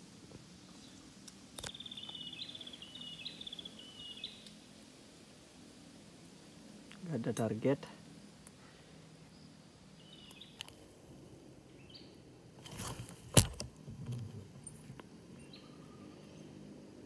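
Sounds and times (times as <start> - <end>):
faint forest background: 0.0 - 17.0.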